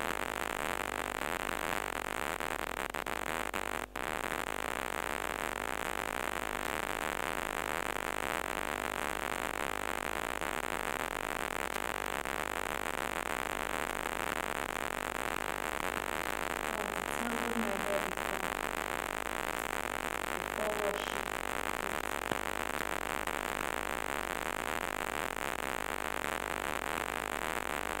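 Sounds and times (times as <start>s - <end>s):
recording noise hiss: 0.0s - 28.0s.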